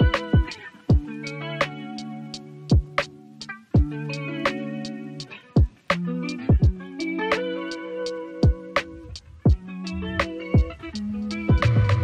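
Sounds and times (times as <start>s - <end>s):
background beat with drum hits: 0.0s - 12.0s
plucked guitar-like notes: 0.0s - 12.0s.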